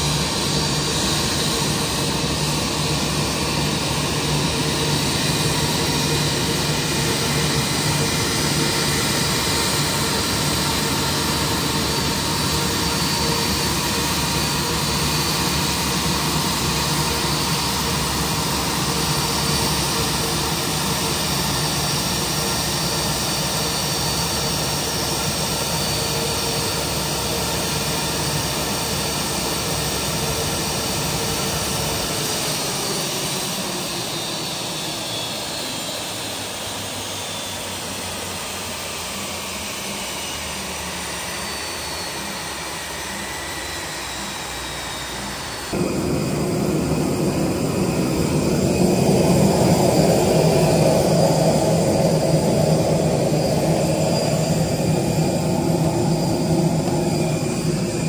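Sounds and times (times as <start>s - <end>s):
jet turbine whine and rumble: 0.0s - 58.0s.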